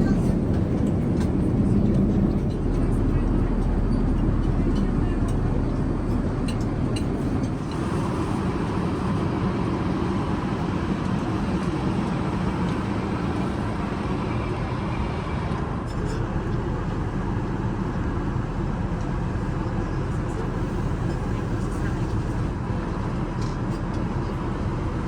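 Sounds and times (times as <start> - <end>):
airliner cabin noise: 0.0 - 25.0.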